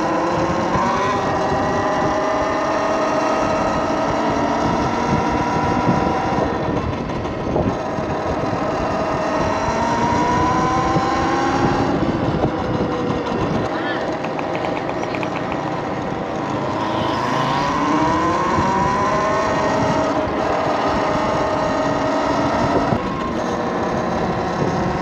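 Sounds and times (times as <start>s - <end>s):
wind rumble on microphone: 0.0s - 14.4s, 15.4s - 25.0s
electric motor whining: 0.0s - 25.0s.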